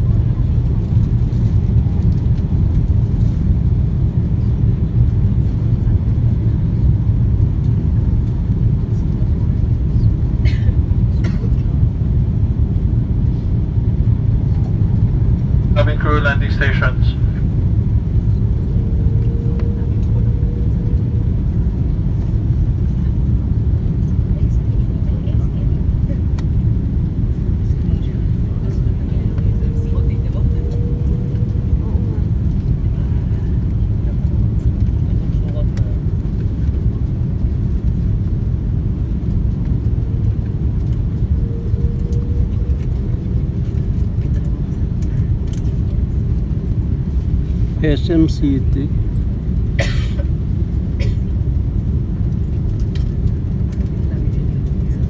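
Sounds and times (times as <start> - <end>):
airliner cabin engine rumble: 0.0 - 55.0
faint steady whine: 0.0 - 55.0.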